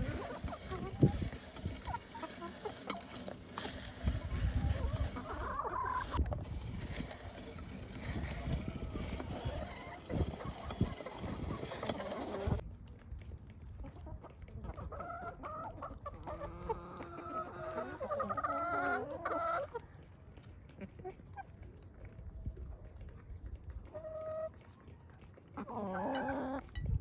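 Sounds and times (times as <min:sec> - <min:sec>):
chickens clucking: 0:00.0 - 0:12.6, 0:13.7 - 0:27.0.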